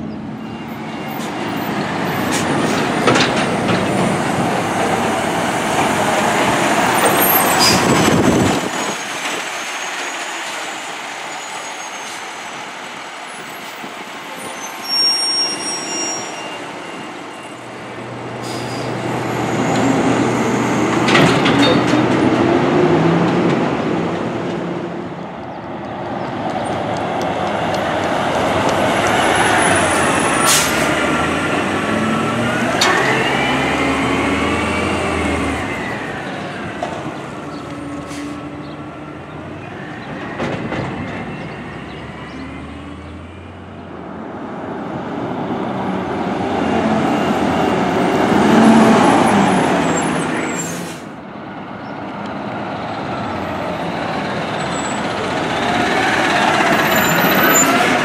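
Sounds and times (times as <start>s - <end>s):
diesel garbage trucks driving: 0.0s - 58.0s.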